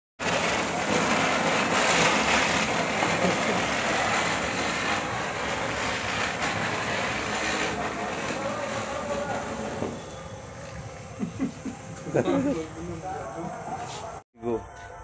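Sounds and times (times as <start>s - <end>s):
firework hissing: 0.2s - 14.2s.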